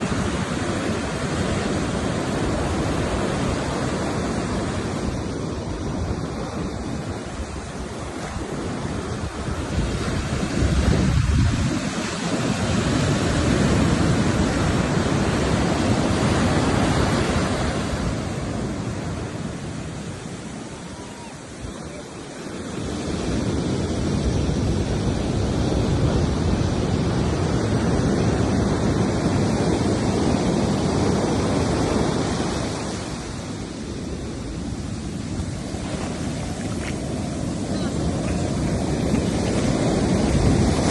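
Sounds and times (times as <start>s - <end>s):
sea waves breaking on a beach: 0.0s - 40.9s
wind buffeting microphone: 0.0s - 40.9s.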